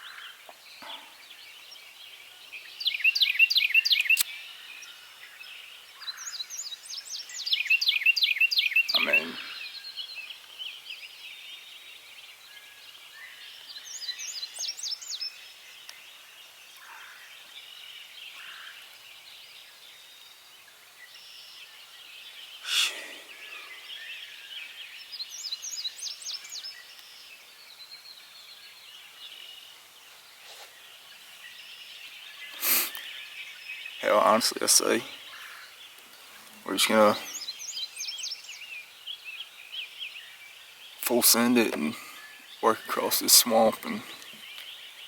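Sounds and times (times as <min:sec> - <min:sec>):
high trilled bird song: 0:00.0 - 0:20.2, 0:21.0 - 0:45.0
songbirds twittering: 0:00.0 - 0:45.0.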